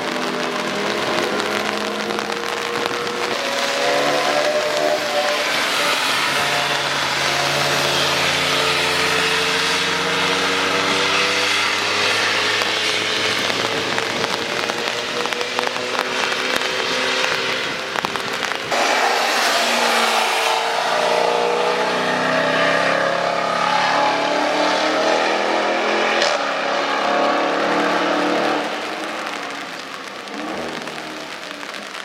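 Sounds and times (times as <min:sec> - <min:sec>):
car engine passing at speed: 0:00.0 - 0:31.7
rain: 0:00.0 - 0:32.0.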